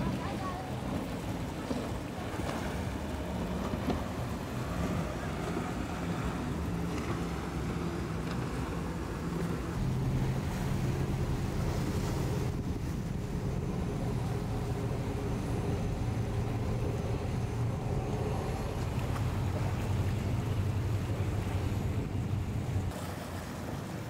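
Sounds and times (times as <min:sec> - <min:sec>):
powerboat engines droning: 0:00.0 - 0:24.0
rush of boat wake: 0:00.0 - 0:24.0.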